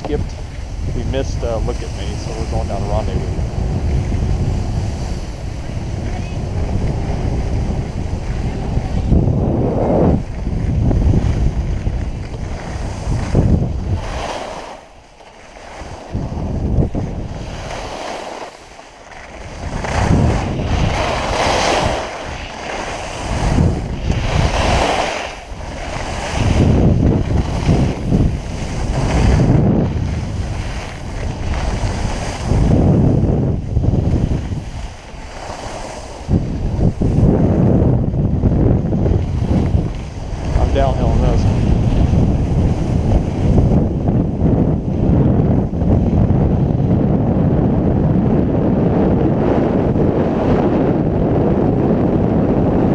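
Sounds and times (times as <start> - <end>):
skis scraping over snow: 0.0 - 47.0
wind buffeting microphone: 0.0 - 52.9.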